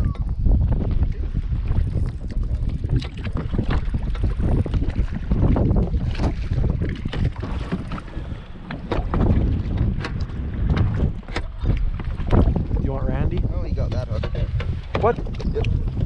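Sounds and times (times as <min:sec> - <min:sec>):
water slapping against kayak: 0:00.0 - 0:16.0
wind on microphone: 0:00.0 - 0:16.0.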